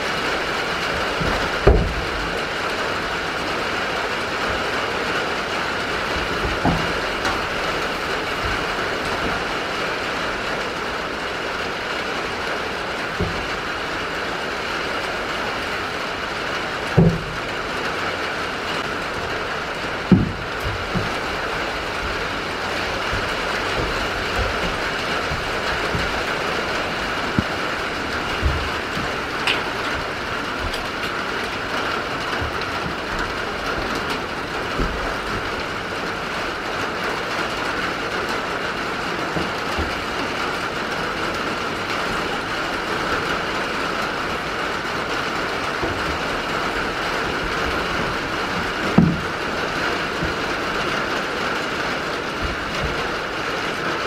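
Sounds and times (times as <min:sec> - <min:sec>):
soft thumps: 0:00.0 - 0:09.7, 0:16.9 - 0:17.6, 0:18.8 - 0:53.4
steady rain hiss: 0:00.0 - 0:54.0.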